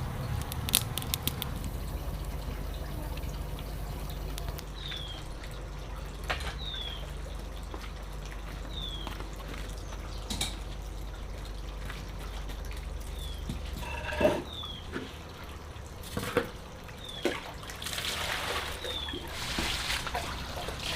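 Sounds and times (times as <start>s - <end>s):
low steady hum: 0.0s - 20.9s
water dripping and trickling: 0.0s - 20.9s.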